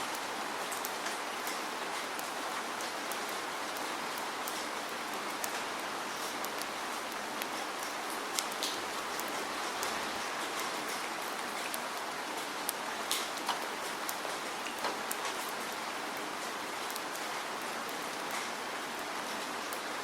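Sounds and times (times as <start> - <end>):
raindrops ticking on a surface: 0.0 - 20.0
steady rain hiss: 0.0 - 20.0.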